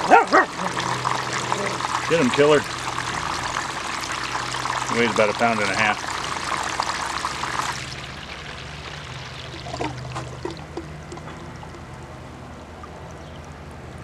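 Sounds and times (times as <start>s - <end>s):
water rushing down sluice box: 0.0s - 11.8s
low steady hum: 0.0s - 14.0s
water trickling and dripping: 0.0s - 14.0s.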